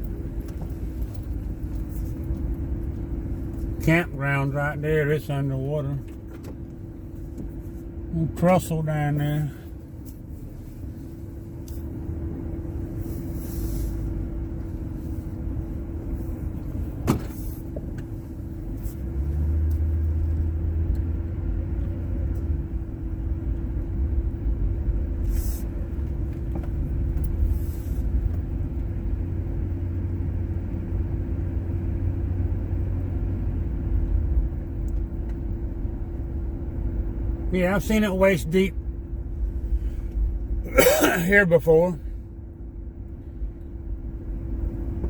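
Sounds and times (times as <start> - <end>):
car engine and road rumble: 0.0 - 45.0
constant hum: 0.0 - 45.0.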